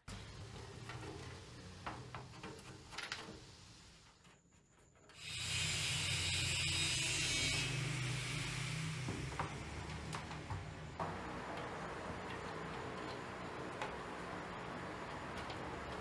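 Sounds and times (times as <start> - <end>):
steady spraying hiss: 0.1 - 4.4, 5.2 - 16.0.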